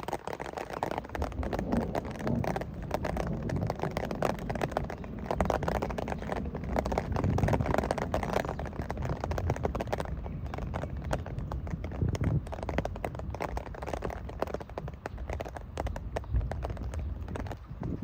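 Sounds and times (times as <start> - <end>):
heavy rain on hard surfaces: 0.0 - 18.0.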